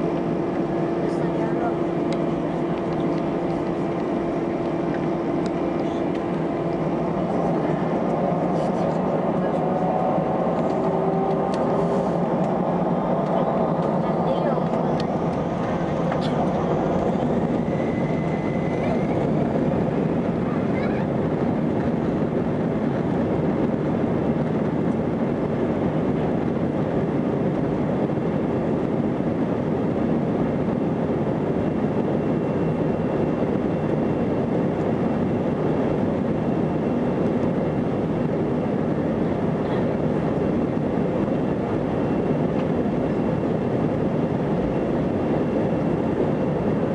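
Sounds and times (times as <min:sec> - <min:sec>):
jet engine cabin rumble: 0:00.0 - 0:46.9.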